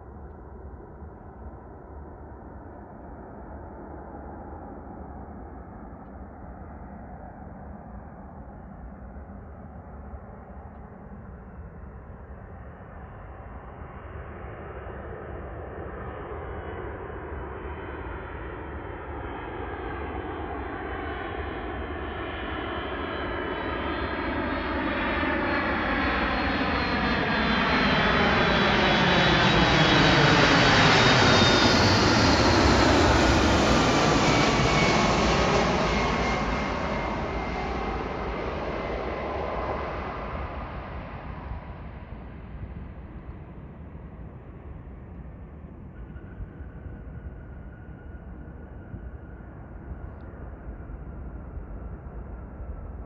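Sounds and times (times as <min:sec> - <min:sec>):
jet airliner passing by: 0:06.5 - 0:53.0.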